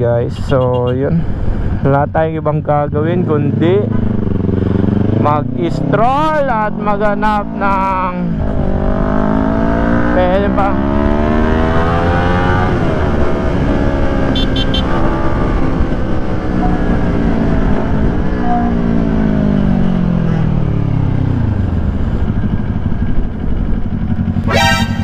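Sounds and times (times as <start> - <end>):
motorcycle engine revving and idling: 2.6 - 25.0.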